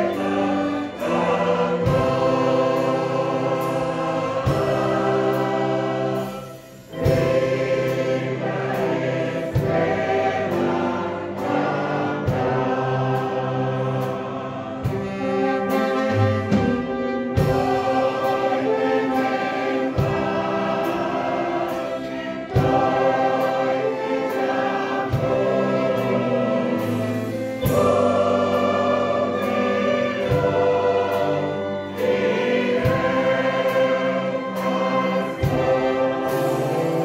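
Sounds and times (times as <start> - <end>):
choir singing: 0.0 - 37.0
orchestra playing a hymn: 0.0 - 37.0.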